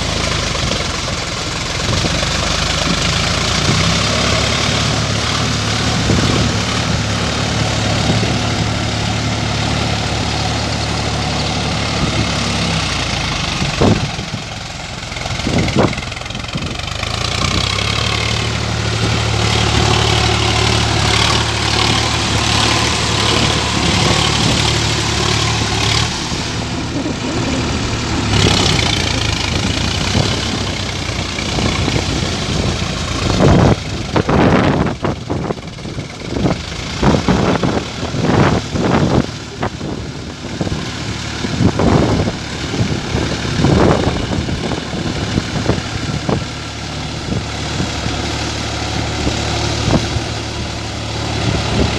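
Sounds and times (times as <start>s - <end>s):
engine surges and thumps: 0.0s - 51.9s
tractor diesel engine running: 0.0s - 51.9s.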